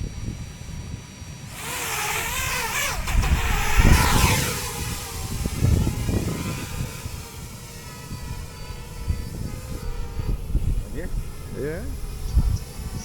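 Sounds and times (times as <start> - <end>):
rc aircraft motor whine: 0.0 - 13.0
wind rumble on microphone: 0.0 - 13.0.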